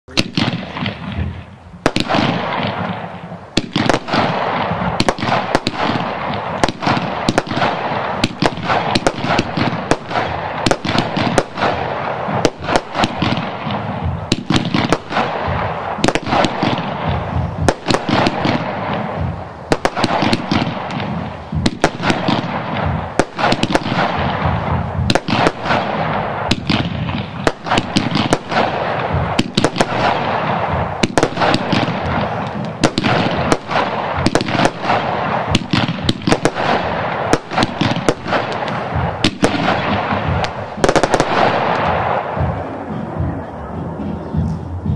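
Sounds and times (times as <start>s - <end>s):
continuous rushing noise: 0.1s - 44.9s
firework reports: 0.1s - 44.9s.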